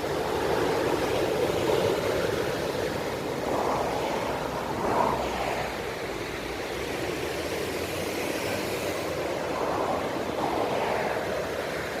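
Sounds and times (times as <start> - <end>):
sea waves breaking: 0.0 - 12.0.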